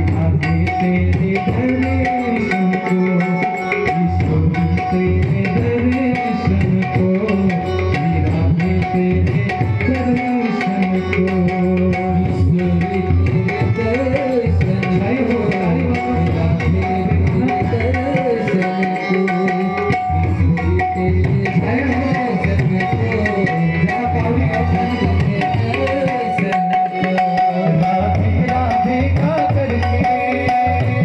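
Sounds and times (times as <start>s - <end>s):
tabla playing a rhythm: 0.0s - 31.0s
wavering melody: 0.0s - 31.0s.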